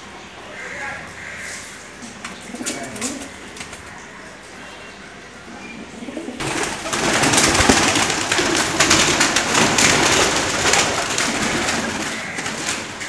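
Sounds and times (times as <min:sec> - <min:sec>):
pigeons cooing: 0:00.6 - 0:13.0.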